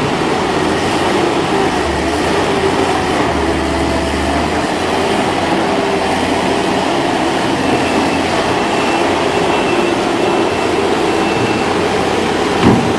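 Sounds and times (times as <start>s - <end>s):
skid steer loader engine rumble: 0.0s - 12.9s.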